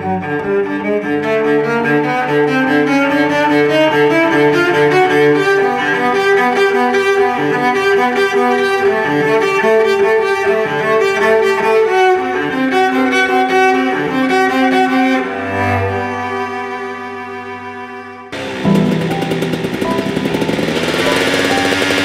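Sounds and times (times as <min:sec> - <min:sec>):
bowed strings holding long notes: 0:00.0 - 0:22.0.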